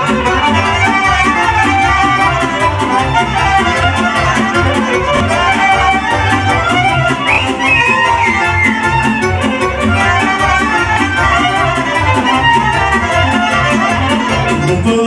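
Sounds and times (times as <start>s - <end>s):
violin melody: 0.0s - 14.9s
band playing folk dance tune: 0.0s - 15.0s.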